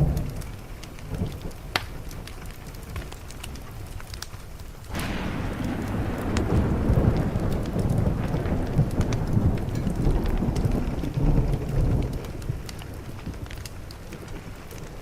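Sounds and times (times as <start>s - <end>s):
thunder rumbling: 0.0s - 3.6s, 4.9s - 15.0s
steady rain: 0.0s - 15.0s
wood fire crackling: 0.0s - 15.0s.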